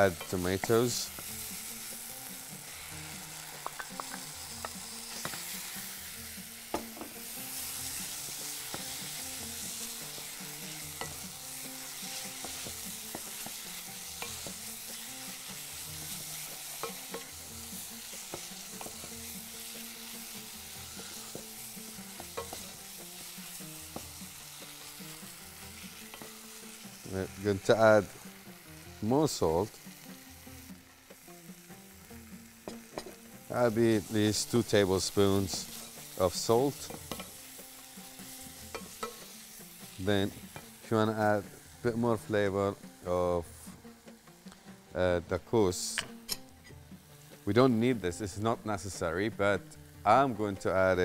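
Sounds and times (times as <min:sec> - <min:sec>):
tomatoes sizzling in a pot: 0:00.0 - 0:51.0.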